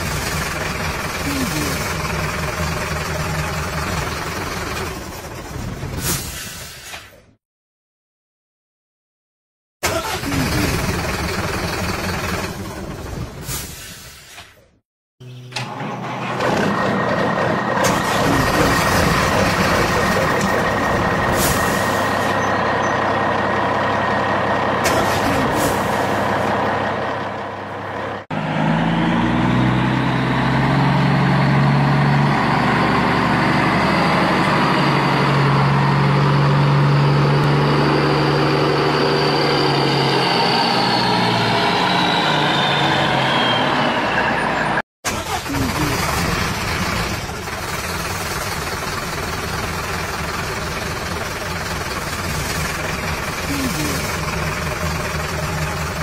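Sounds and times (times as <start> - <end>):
heavy truck engine running: 0.0 - 6.8, 9.9 - 14.3, 15.3 - 56.0.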